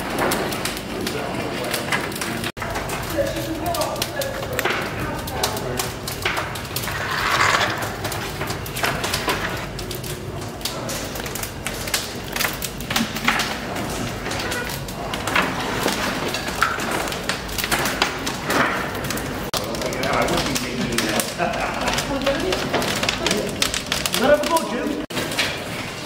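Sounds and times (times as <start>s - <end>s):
wood clattering into boiler firebox: 0.0s - 26.0s.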